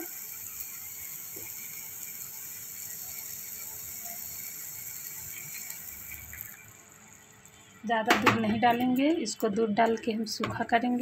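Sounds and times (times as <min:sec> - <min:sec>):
vegetables frying with crackling sizzle: 0:00.0 - 0:11.0.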